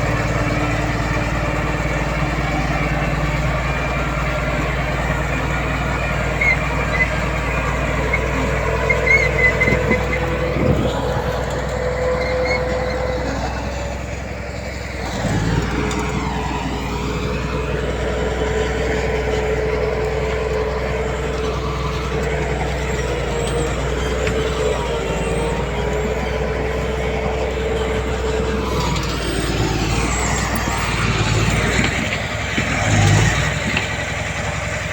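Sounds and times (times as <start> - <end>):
heavy diesel machinery running: 0.0 - 34.9
held whine: 0.0 - 34.9.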